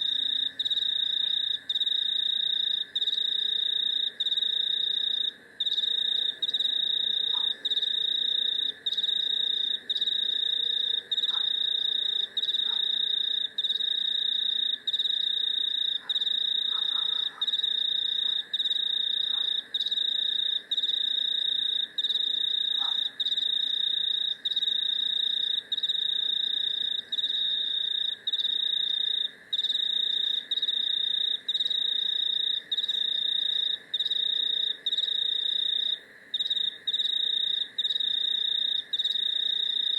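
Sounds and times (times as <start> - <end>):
low insect chorus: 0.0 - 39.9.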